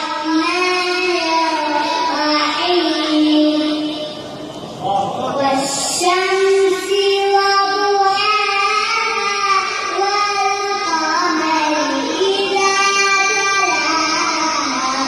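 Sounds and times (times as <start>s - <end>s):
child chanting melodically: 0.0s - 4.4s, 5.0s - 15.0s.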